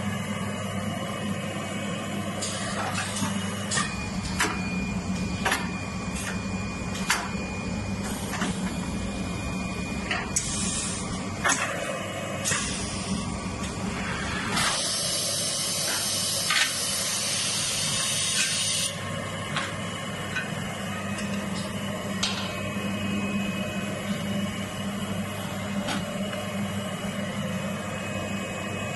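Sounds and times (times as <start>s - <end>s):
machine humming: 0.0s - 28.9s.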